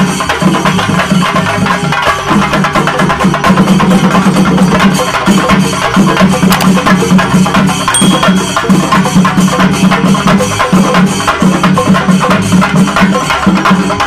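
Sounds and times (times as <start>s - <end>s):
drums beaten with sticks: 0.0s - 14.0s.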